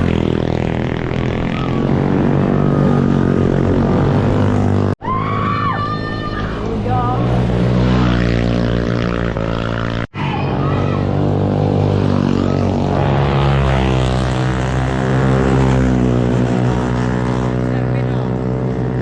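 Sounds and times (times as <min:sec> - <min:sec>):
motorcycle engine running: 0:00.0 - 0:05.0, 0:06.0 - 0:19.0
wind and road noise: 0:00.0 - 0:19.0.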